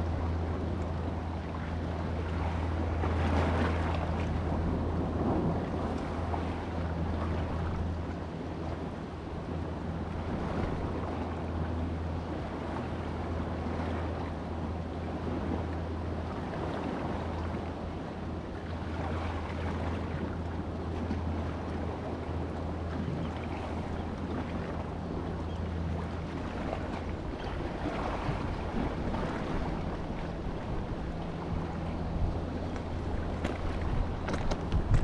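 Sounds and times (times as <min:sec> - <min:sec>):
sea waves washing: 0:00.0 - 0:35.0
steady low hum: 0:00.0 - 0:35.0
wind buffeting microphone: 0:00.0 - 0:35.0.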